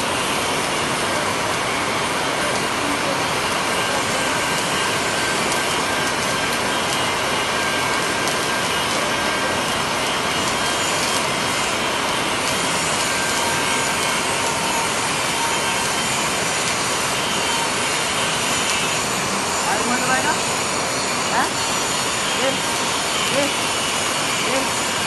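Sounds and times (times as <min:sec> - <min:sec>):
welding arc crackling: 0:00.0 - 0:25.0.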